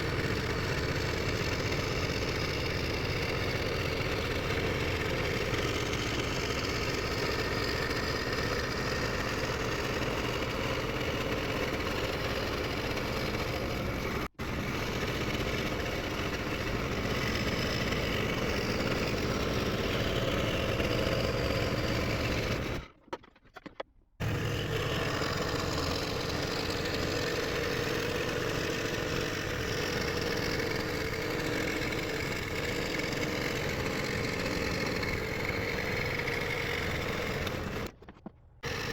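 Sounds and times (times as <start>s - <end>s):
scroll saw cutting plywood: 0.0s - 23.2s, 24.2s - 38.9s.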